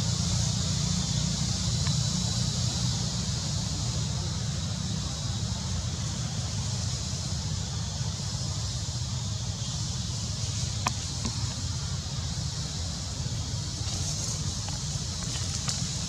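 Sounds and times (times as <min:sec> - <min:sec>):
constant high hiss: 0:00.0 - 0:16.0.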